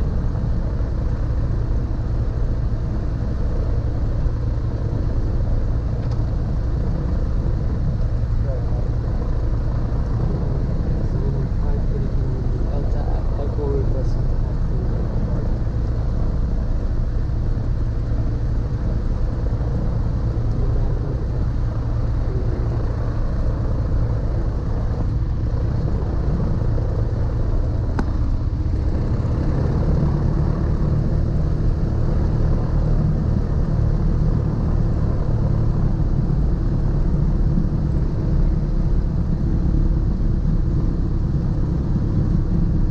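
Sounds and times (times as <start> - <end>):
propeller aircraft engines droning: 0.0 - 42.9.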